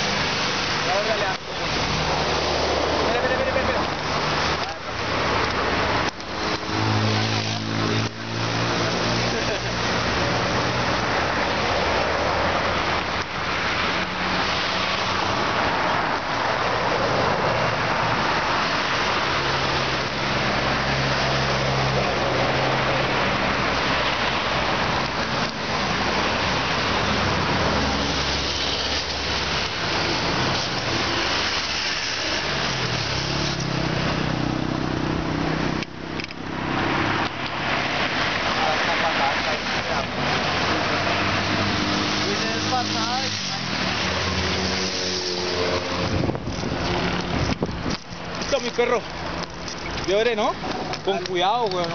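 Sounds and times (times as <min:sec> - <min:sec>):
car engines: 0:00.0 - 0:51.9
road traffic passing: 0:00.0 - 0:51.9.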